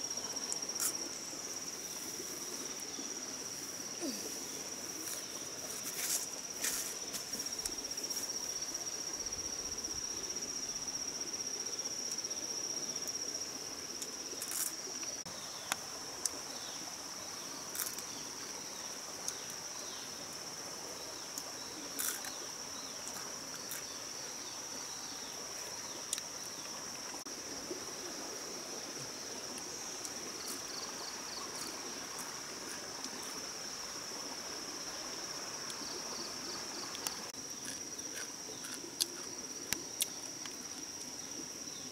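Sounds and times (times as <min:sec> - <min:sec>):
insects buzzing: 0:00.0 - 0:41.9.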